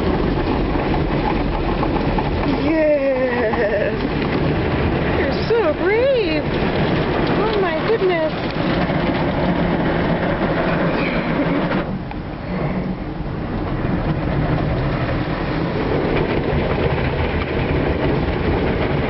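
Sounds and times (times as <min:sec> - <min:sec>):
car wash spray and machinery: 0:00.0 - 0:19.0.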